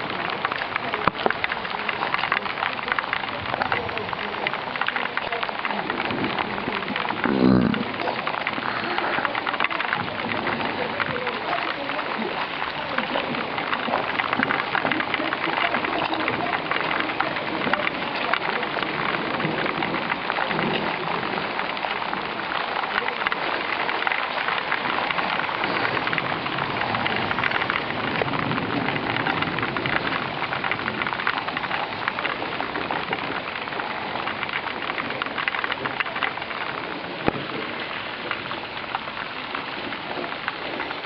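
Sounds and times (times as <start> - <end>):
heavy rain on hard surfaces: 0.0 - 41.0.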